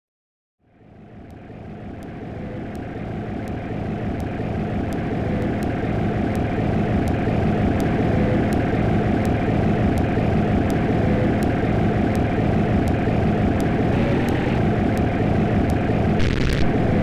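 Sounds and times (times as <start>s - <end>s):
rough engine-like drone: 0.6s - 17.0s.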